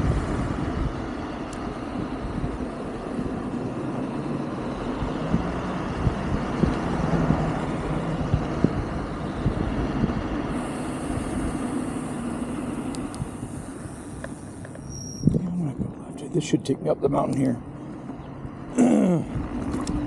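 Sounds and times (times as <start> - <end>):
high thin whine: 0.0 - 16.8
low steady hum: 0.0 - 20.0
wind and road noise: 0.0 - 20.0.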